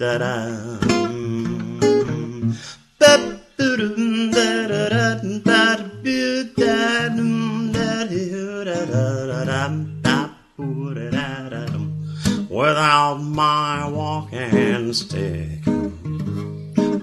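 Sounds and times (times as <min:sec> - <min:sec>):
man singing wordless melody: 0:00.0 - 0:16.2
acoustic guitar: 0:00.0 - 0:17.0.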